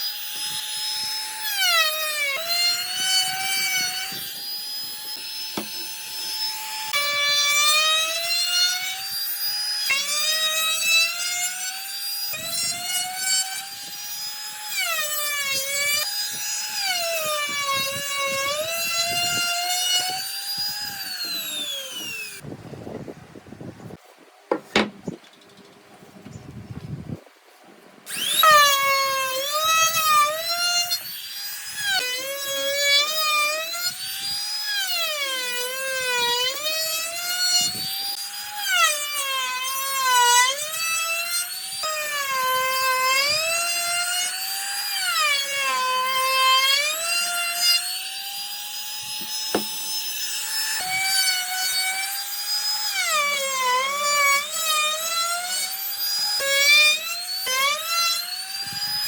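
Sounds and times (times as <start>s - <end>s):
power tool motor whining: 0.0s - 22.4s, 28.1s - 39.4s, 40.4s - 59.0s.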